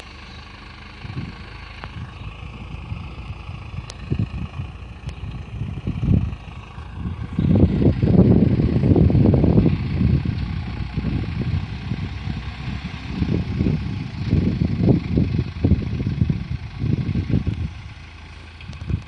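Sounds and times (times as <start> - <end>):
diesel engine running: 0.0 - 19.0
wind rumbling on microphone: 0.9 - 19.0.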